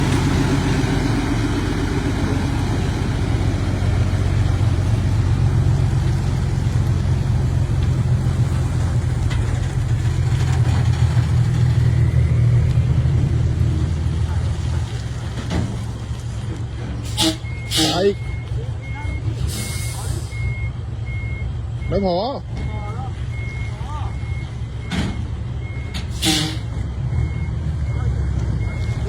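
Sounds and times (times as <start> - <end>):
heavy vehicle engine humming: 0.0 - 29.0.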